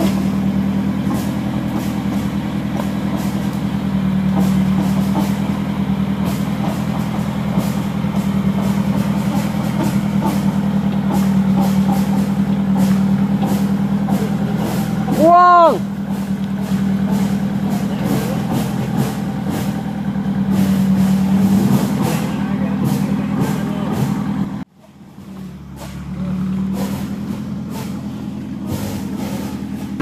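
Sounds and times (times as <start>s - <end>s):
off-road vehicle engine drone: 0.0s - 30.0s.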